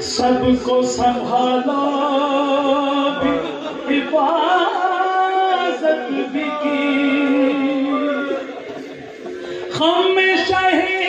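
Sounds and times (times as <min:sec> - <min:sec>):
man singing unaccompanied: 0:00.0 - 0:08.6, 0:09.7 - 0:11.0.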